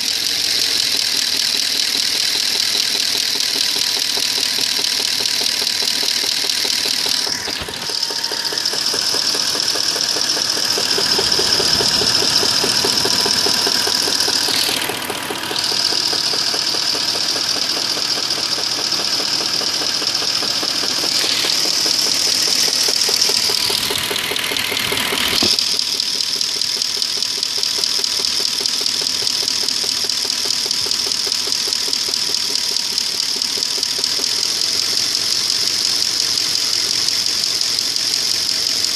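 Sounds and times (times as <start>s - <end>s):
car engine idling with knock: 0.0s - 38.9s.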